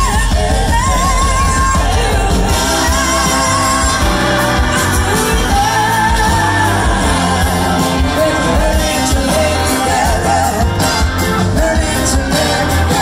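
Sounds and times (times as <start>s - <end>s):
woman singing: 0.0s - 10.7s
rock band playing: 0.0s - 13.0s.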